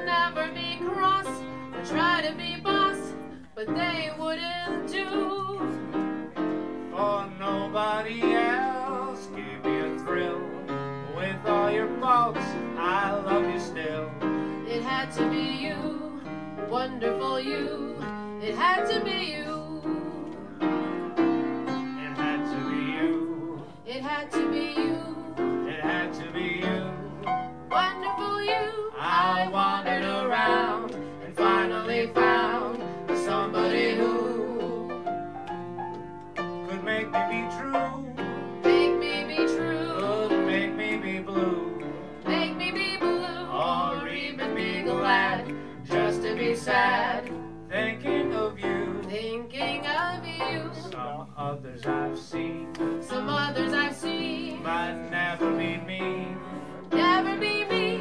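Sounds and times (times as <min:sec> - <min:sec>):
jazz piano: 0:00.0 - 0:58.0
man and woman singing wordless: 0:00.0 - 0:58.0.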